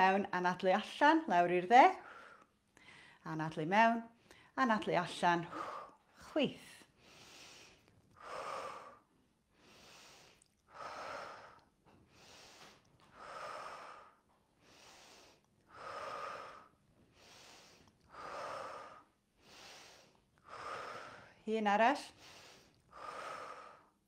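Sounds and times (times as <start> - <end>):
woman breathing slowly: 2.0 - 3.3, 4.1 - 4.6, 5.4 - 24.0.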